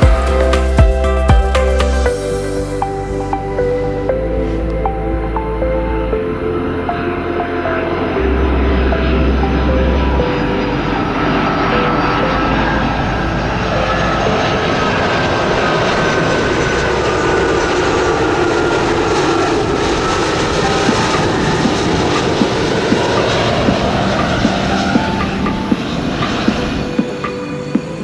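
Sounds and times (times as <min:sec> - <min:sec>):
jet airliner passing overhead: 0:02.1 - 0:28.0.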